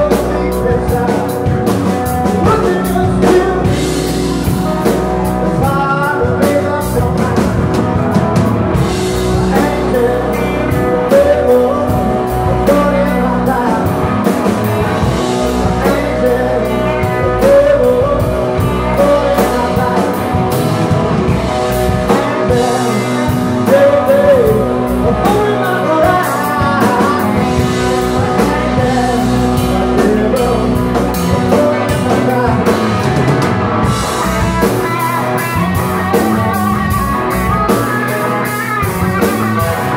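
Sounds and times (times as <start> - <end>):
person singing: 0.0 - 8.2, 8.8 - 39.9
drum kit: 0.0 - 39.9
electric guitars: 0.0 - 39.9.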